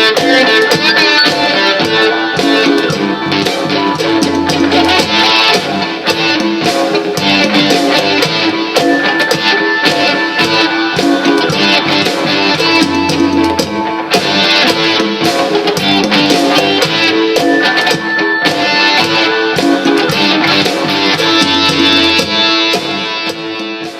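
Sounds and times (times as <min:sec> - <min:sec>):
improvised guitar: 0:00.0 - 0:23.9
looped drum backing: 0:00.0 - 0:23.9.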